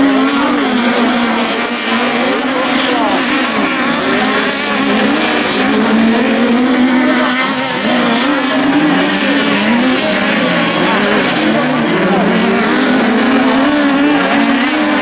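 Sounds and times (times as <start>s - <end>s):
buggy engines revving: 0.0s - 15.0s.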